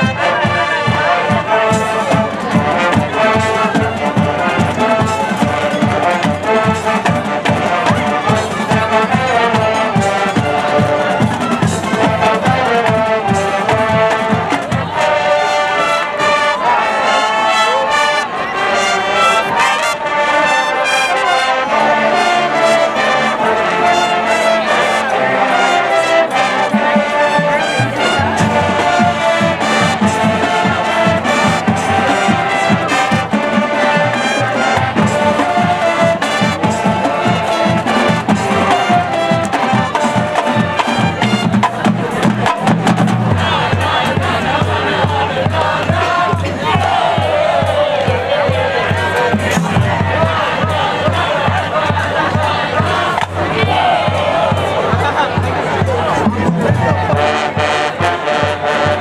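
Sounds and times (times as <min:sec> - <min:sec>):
low brass and drum beat: 0:00.0 - 0:59.0
marching band playing: 0:00.0 - 0:59.0.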